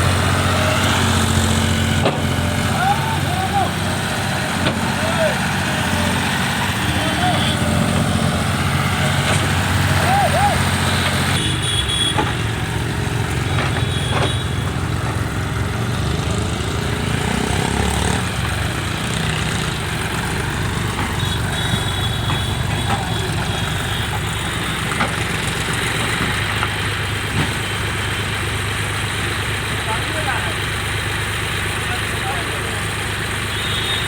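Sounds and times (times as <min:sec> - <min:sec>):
diesel machinery engines running: 0:00.0 - 0:34.0.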